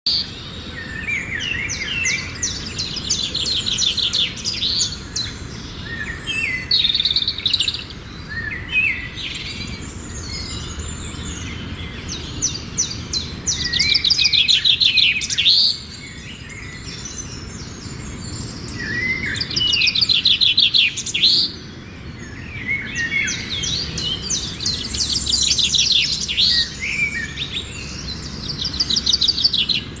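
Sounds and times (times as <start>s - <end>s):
songbirds trilling and chirping: 0.1s - 30.0s.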